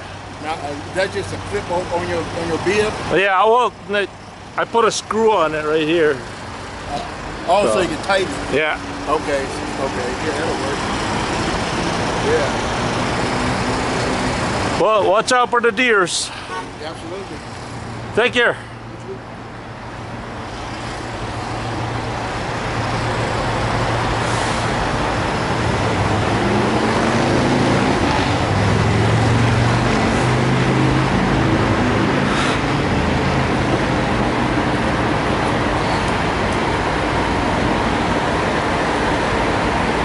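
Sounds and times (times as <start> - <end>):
diesel trucks rumbling: 0.0 - 40.0
traffic noise: 0.0 - 40.0.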